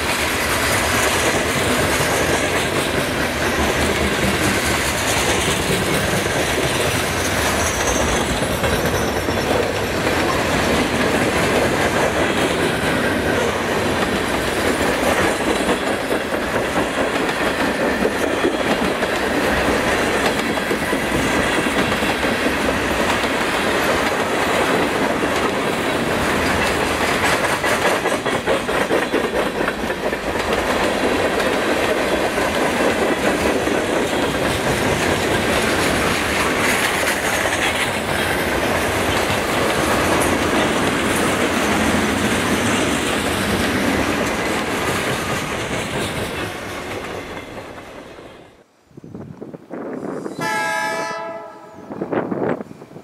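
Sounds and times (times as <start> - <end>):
wheels clattering over rail joints: 0.0 - 48.1
freight train rumbling past: 0.0 - 53.0.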